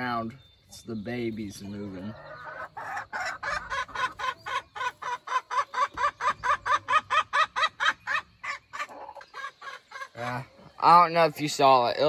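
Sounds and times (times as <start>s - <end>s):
chicken clucking: 1.4s - 11.4s.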